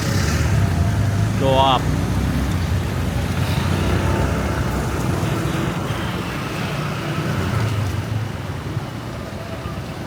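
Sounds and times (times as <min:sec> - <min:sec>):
street traffic: 0:00.0 - 0:10.0.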